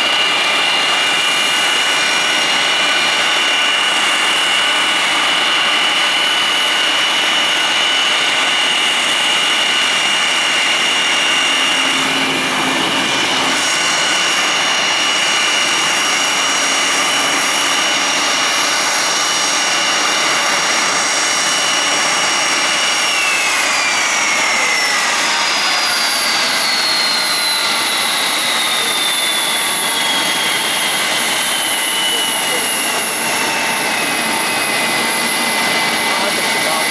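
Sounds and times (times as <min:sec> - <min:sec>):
engine spooling down: 0:00.0 - 0:36.9
jet engines idling: 0:00.0 - 0:36.9.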